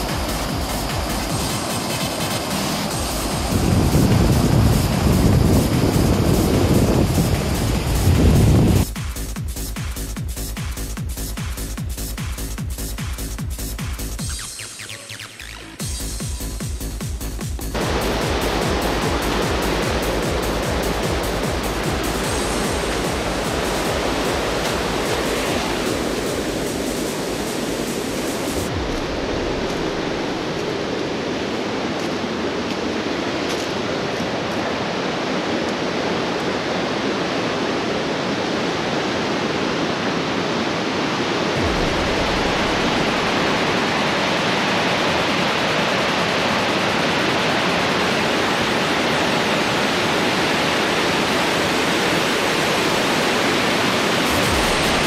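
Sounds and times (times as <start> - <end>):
waterfall rushing: 0.0 - 8.9, 14.1 - 55.0.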